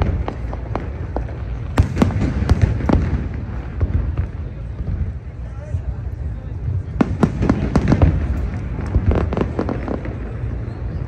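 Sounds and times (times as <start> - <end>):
fireworks pops and bangs: 0.0 - 11.0.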